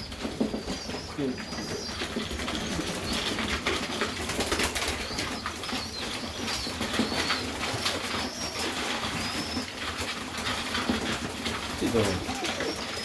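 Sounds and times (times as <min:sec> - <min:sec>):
pigeon squab peeping: 0:00.0 - 0:13.0.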